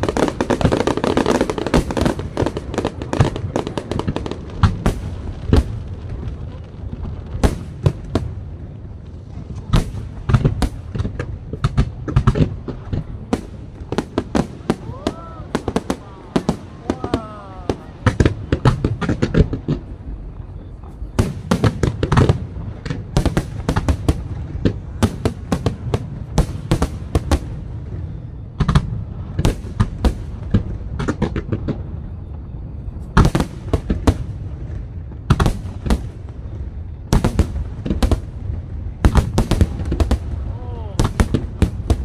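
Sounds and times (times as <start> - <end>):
continuous low rumble: 0.0 - 42.0.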